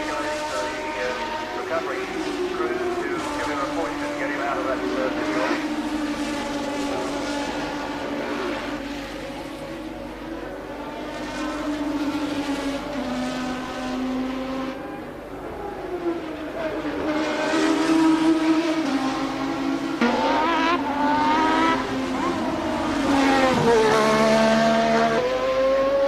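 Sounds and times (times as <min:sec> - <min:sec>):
racing car engine: 0:00.0 - 0:26.0.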